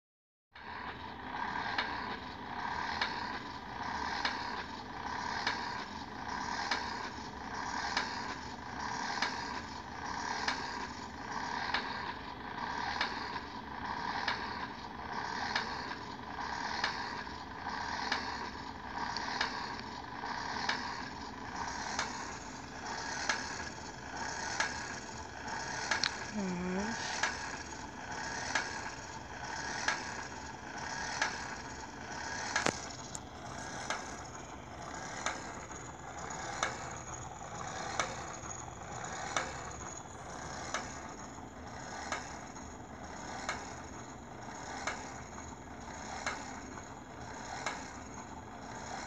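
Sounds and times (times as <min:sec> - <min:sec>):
toy robot motor whirring: 0:00.6 - 0:49.0.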